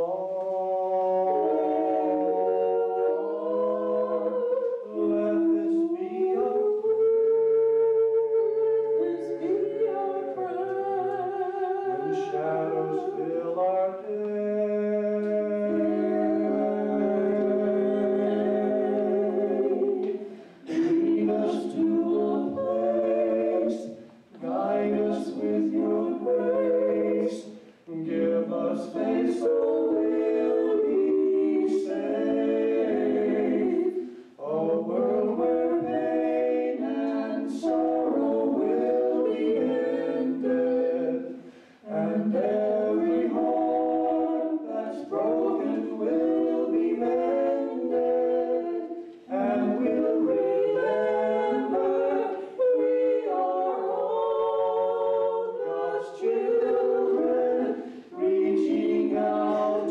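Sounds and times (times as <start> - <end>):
man and women singing a cappella: 0.0 - 59.9.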